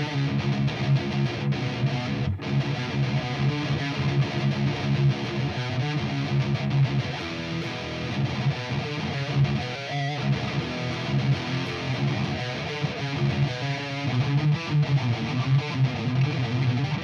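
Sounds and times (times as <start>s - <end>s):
overdriven electric guitar riff: 0.0s - 17.0s.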